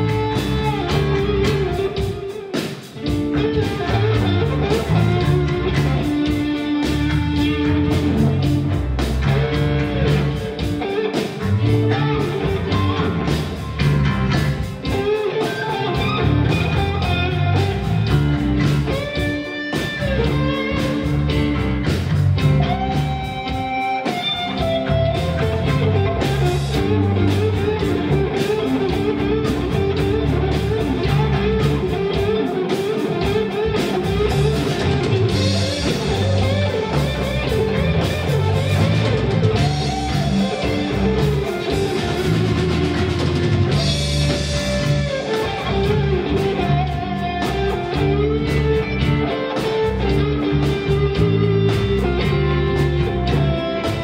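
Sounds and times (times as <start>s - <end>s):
live rock band: 0.0s - 54.0s.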